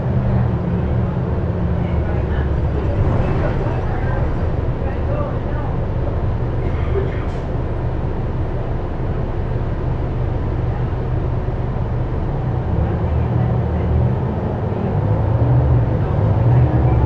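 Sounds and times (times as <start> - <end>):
bus engine and drivetrain drone: 0.0 - 17.0
road noise: 0.0 - 17.0.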